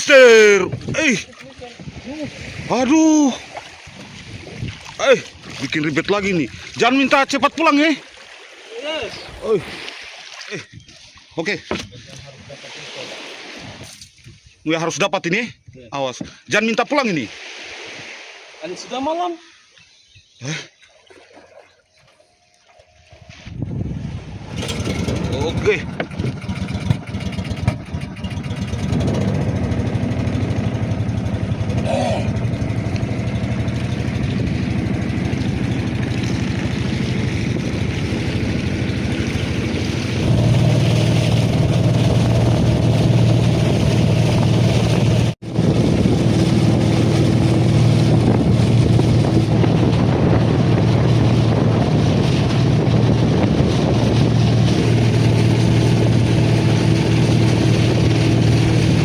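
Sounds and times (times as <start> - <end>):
boat motor running: 0.0 - 13.8, 21.0 - 59.0.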